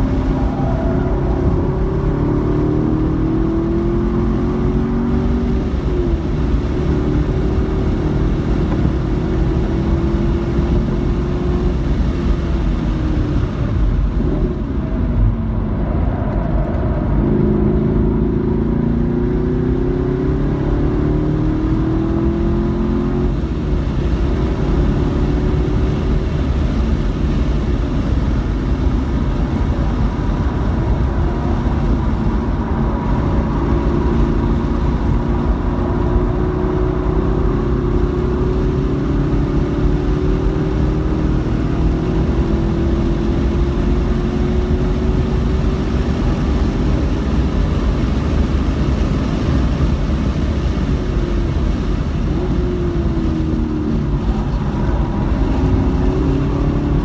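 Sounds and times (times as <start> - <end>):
car engine revving through gears: 0.0 - 28.2, 29.0 - 57.0
tyre and wind noise: 0.0 - 57.0.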